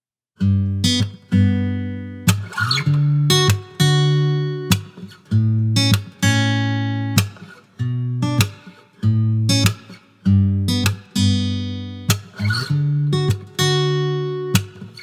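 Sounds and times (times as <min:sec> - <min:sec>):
acoustic guitar chords ringing: 0:00.4 - 0:15.0.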